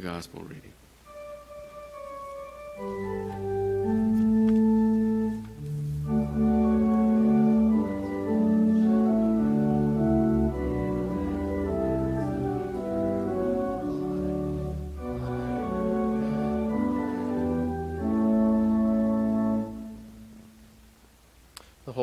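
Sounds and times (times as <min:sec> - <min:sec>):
church organ chords: 0:01.0 - 0:20.9.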